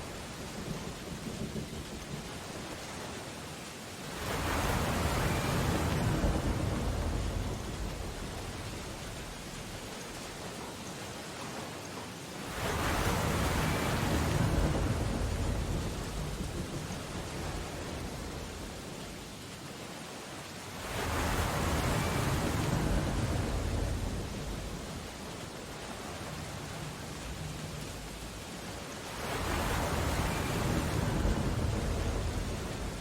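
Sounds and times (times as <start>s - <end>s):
waves crashing: 0.0s - 33.0s.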